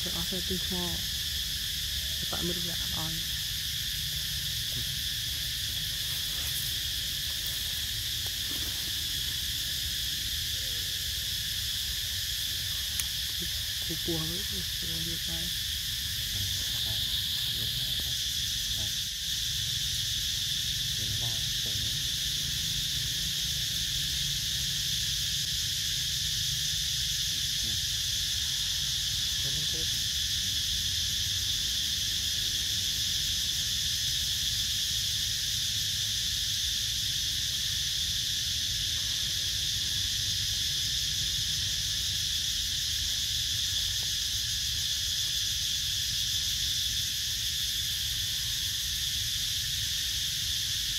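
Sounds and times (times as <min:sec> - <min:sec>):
insect chorus buzzing: 0:00.0 - 0:50.9.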